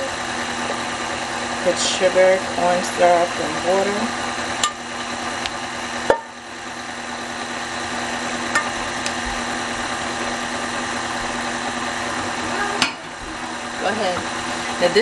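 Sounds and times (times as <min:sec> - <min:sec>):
stand mixer motor humming: 0:00.0 - 0:15.0
wire whisk whirring in steel bowl: 0:00.0 - 0:15.0.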